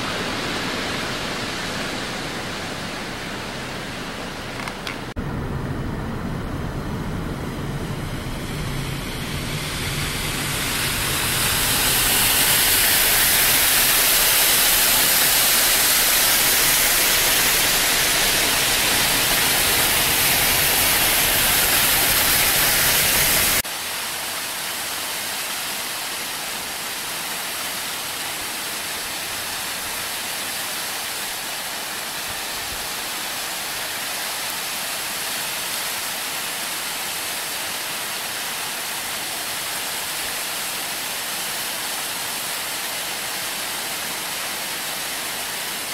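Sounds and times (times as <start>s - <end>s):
waterfall rushing over rocks: 0.0s - 5.2s, 8.1s - 45.9s
thin steady hiss: 0.0s - 45.9s.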